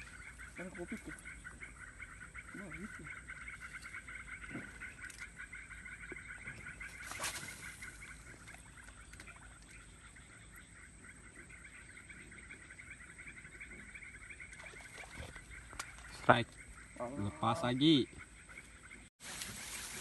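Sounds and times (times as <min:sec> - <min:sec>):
frogs calling in pulsing trills: 0:00.0 - 0:19.8.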